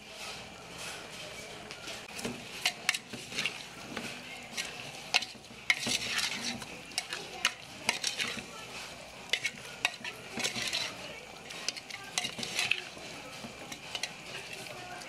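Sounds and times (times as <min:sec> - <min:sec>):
meat sizzling: 0:02.0 - 0:15.0
metal spoon scraping a pot: 0:02.0 - 0:15.0.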